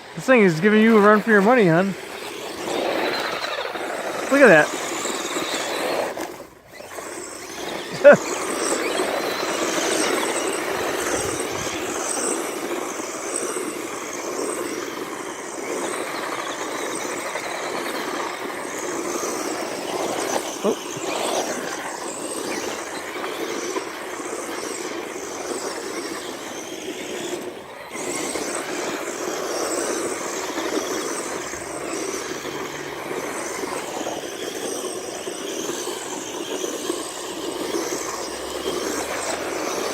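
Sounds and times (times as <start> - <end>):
rc cars motor whine and tyres: 0.0 - 39.9.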